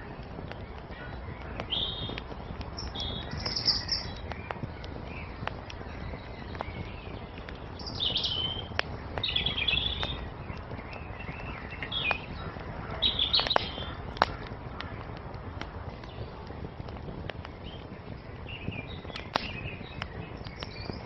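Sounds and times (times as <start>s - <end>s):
fire pops and crackles: 0.0s - 21.0s
songbirds chirping: 0.0s - 21.0s
wood fire hissing: 0.0s - 21.0s.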